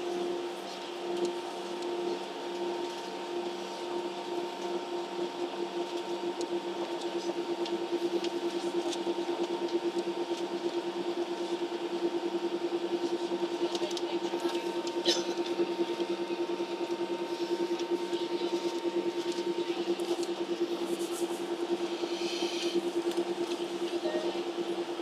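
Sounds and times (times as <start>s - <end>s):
jet engine hum in cabin: 0.0s - 25.0s.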